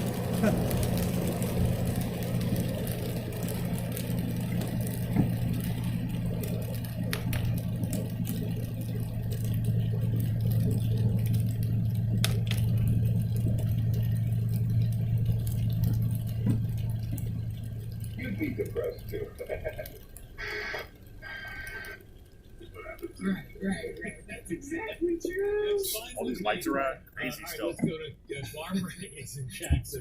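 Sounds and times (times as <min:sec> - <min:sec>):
van engine and road noise: 0:00.0 - 0:30.0.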